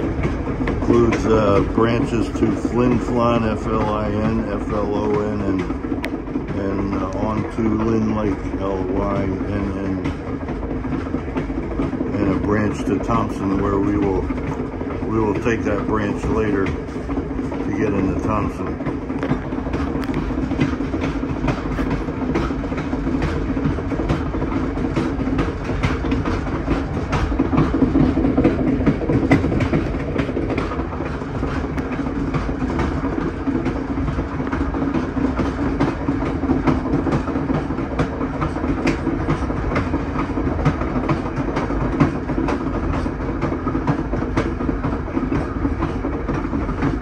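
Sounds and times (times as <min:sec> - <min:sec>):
train rumble: 0:00.0 - 0:47.0
wheels clicking over rail joints: 0:00.0 - 0:47.0.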